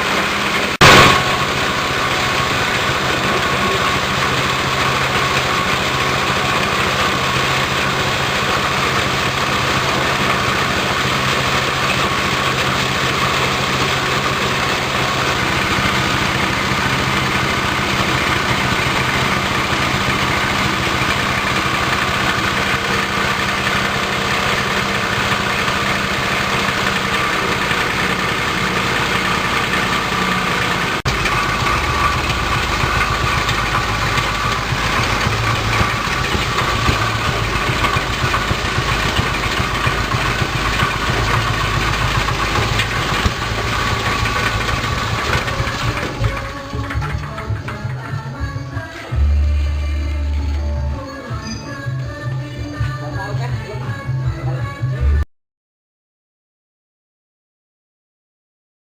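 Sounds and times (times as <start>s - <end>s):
chopper-grinder machine droning: 0.0s - 53.8s.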